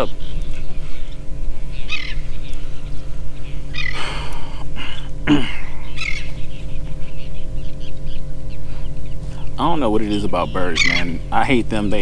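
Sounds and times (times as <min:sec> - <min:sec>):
bird calling: 0:00.0 - 0:12.0
steady low hum: 0:00.0 - 0:12.0.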